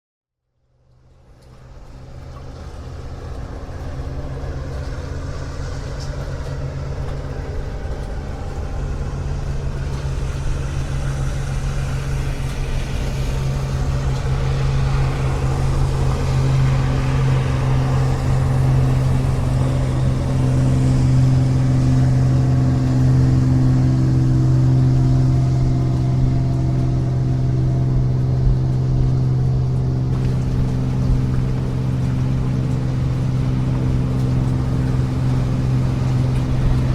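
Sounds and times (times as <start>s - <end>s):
motorboat engine droning: 0.5s - 36.9s.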